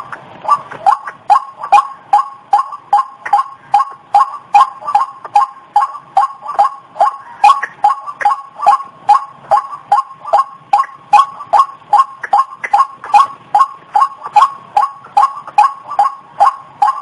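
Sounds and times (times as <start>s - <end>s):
waterhen harsh two-toned calls: 0.0s - 17.0s.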